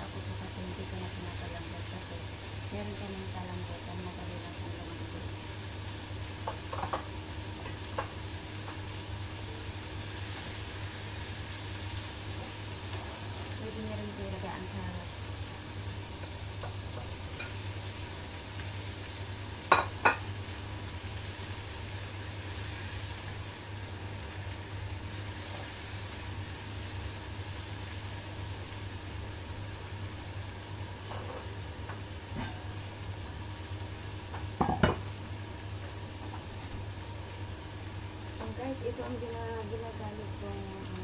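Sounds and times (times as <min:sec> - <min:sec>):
carrots sizzling in a pan: 0:00.0 - 0:41.0
steady low hum: 0:00.0 - 0:41.0.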